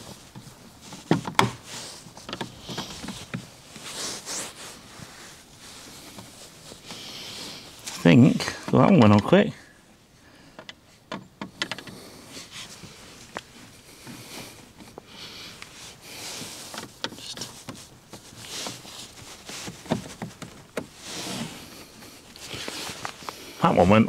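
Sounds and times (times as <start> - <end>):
soft rustling: 0.0 - 11.0, 11.8 - 24.0.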